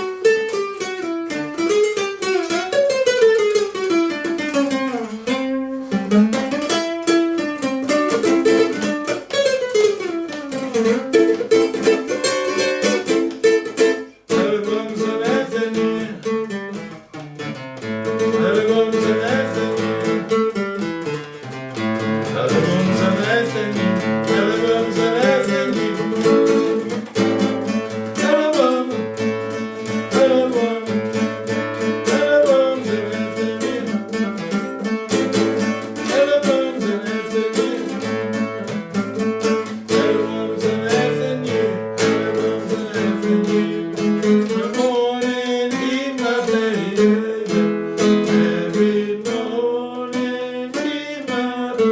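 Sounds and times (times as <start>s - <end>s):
plucked string instrument: 0.0s - 51.9s.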